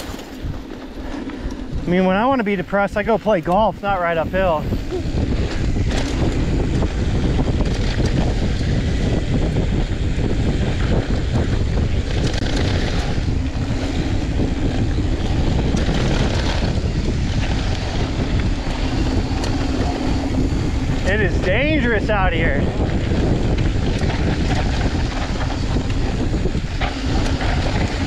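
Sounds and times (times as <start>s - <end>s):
bike rattling: 0.0s - 28.0s
tyres rolling on dirt: 0.0s - 28.0s
wind on microphone: 0.0s - 28.0s.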